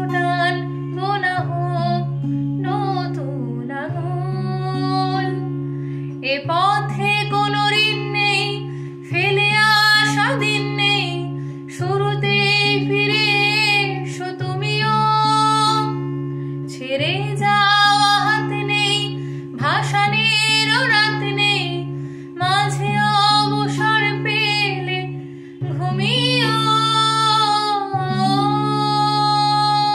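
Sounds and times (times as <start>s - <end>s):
acoustic guitar: 0.0s - 29.9s
woman singing with vibrato: 0.0s - 29.9s.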